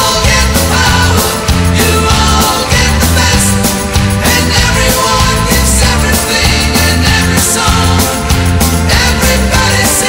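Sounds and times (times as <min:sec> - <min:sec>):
rock music with bass and drums: 0:00.0 - 0:10.0.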